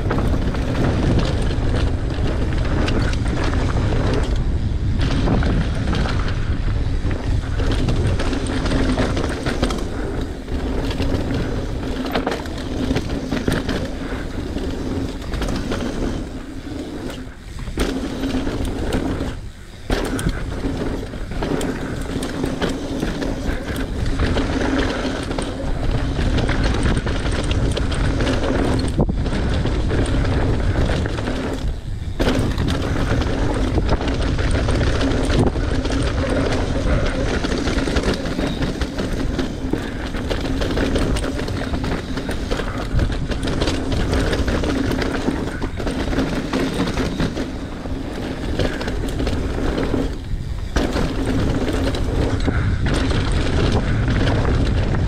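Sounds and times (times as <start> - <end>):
bike tyres rattling on rocky trail: 0.0 - 55.0
wind noise on microphone: 0.0 - 55.0.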